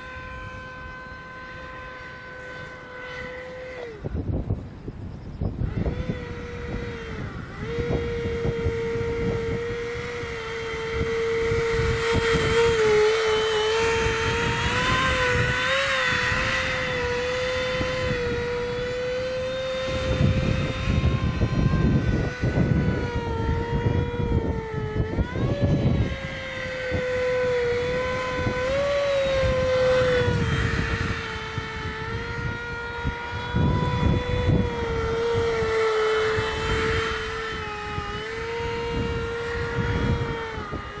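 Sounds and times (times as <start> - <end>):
electric ducted fan whining: 0.0 - 41.0
wind buffeting on microphone: 0.0 - 41.0.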